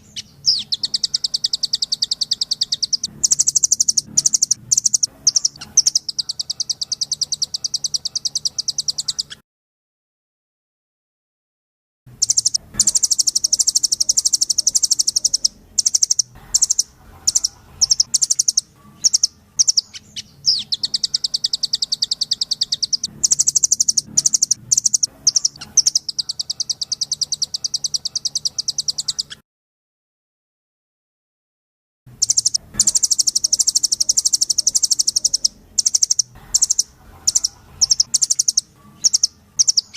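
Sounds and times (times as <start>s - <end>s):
nuthatch rattling trill: 0.0s - 9.4s, 12.2s - 29.4s, 32.2s - 39.9s.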